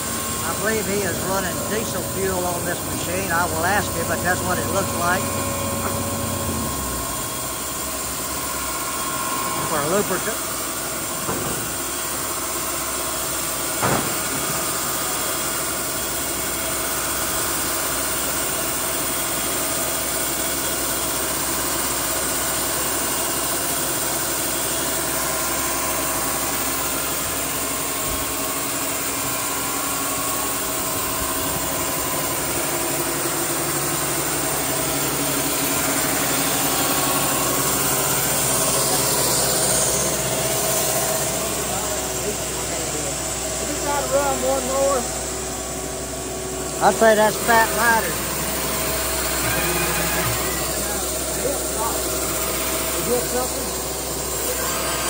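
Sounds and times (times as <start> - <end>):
sawmill mechanical drone: 0.0 - 55.0.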